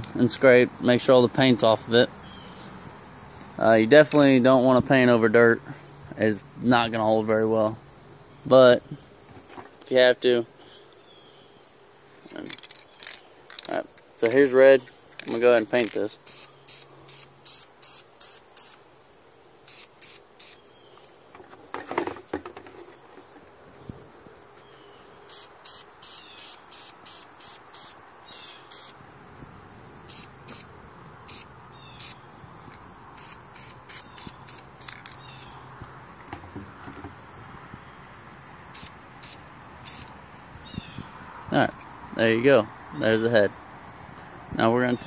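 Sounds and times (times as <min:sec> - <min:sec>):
crickets chirping: 0:00.0 - 0:45.0
high-pitched insect trill: 0:00.1 - 0:45.0.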